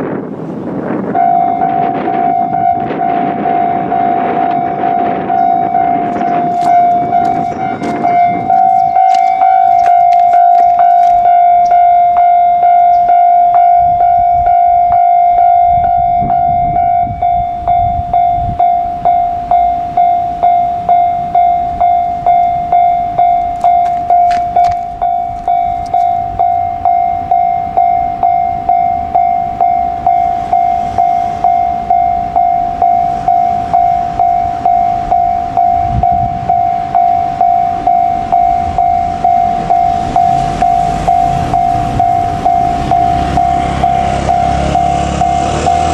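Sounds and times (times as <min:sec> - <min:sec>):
level-crossing warning bell: 0:01.1 - 0:45.9.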